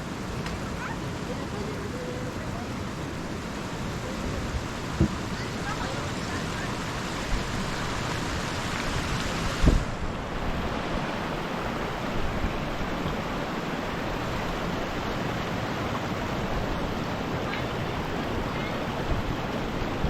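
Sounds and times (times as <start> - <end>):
spring water rushing: 0.0 - 20.0.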